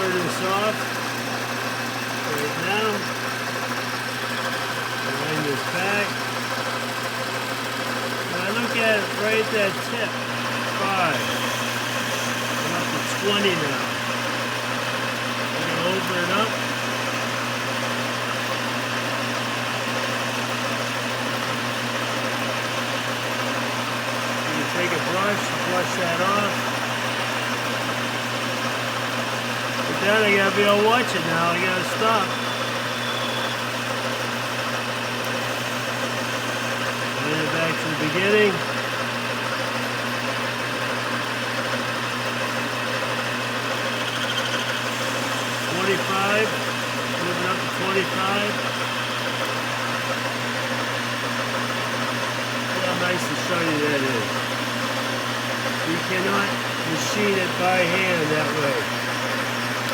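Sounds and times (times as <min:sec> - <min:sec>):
lathe motor humming: 0:00.0 - 0:59.9.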